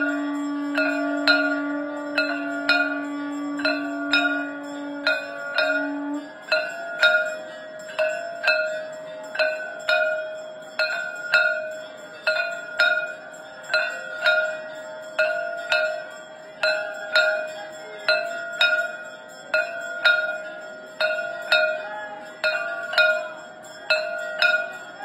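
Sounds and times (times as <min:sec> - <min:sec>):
brass hand bell ringing: 0:00.0 - 0:25.0.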